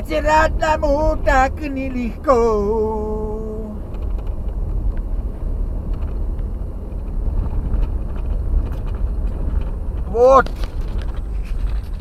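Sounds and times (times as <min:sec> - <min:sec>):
faint rattles: 0:00.0 - 0:12.0
vehicle rumbling on rough road: 0:00.0 - 0:12.0.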